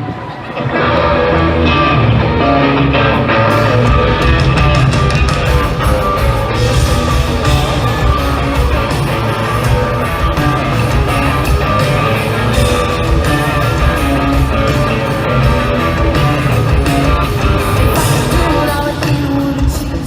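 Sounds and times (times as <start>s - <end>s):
bass and drums: 0.0s - 20.0s
electric guitar: 0.0s - 20.0s
live country rock band: 0.0s - 20.0s.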